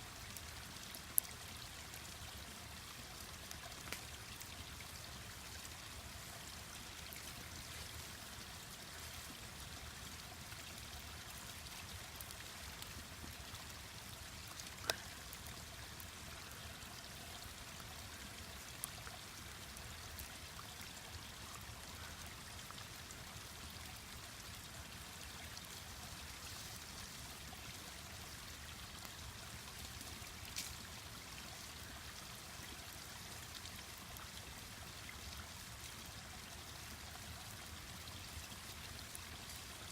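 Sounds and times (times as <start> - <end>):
stream babbling: 0.2 - 39.9.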